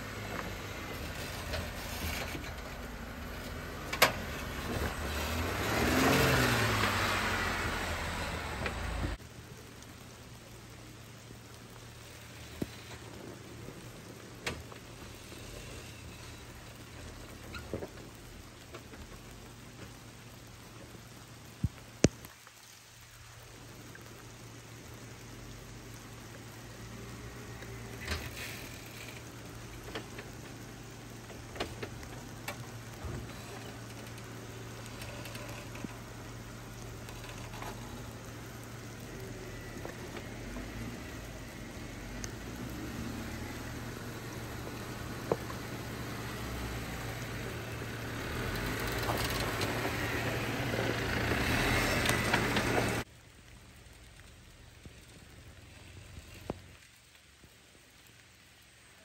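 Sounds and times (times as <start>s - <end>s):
engine low hum: 0.0s - 59.0s
stones crackling under tyres: 0.0s - 59.0s.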